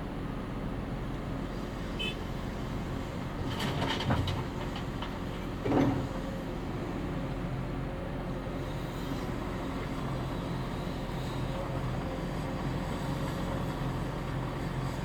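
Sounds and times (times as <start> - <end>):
excavator diesel engine running: 0.2 - 15.0.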